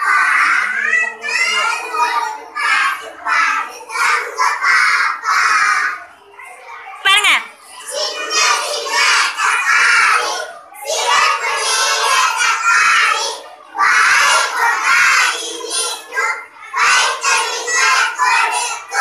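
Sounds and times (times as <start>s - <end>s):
children singing in unison: 0.0s - 6.0s, 7.7s - 19.0s.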